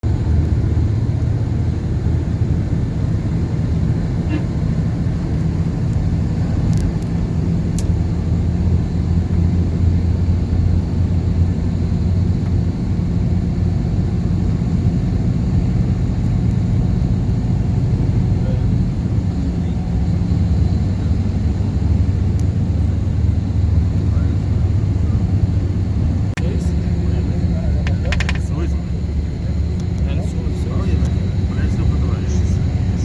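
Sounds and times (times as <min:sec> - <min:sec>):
vehicle rumbling in motion: 0:00.0 - 0:33.0.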